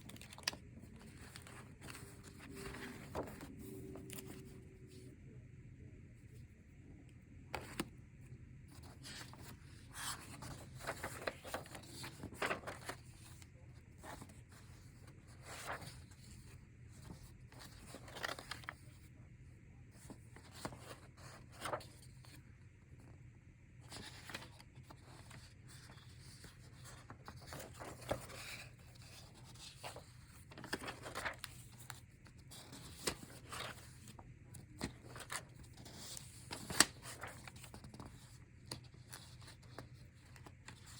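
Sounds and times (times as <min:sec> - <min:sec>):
paper sheets rustling: 0:00.0 - 0:04.5, 0:08.7 - 0:18.8, 0:20.0 - 0:22.4, 0:23.9 - 0:40.9
low room hum: 0:00.0 - 0:40.9.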